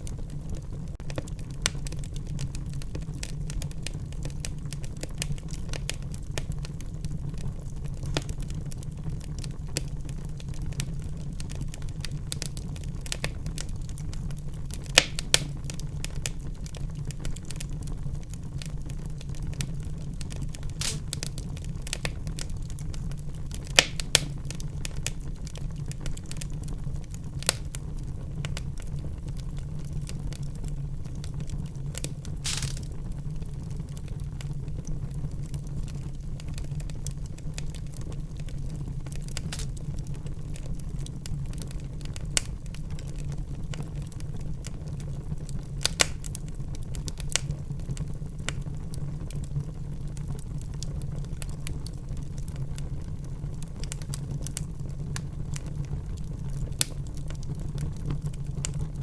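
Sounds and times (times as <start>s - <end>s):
fire crackles and pops: 0.0s - 59.0s
low rumble of flames: 0.0s - 59.0s.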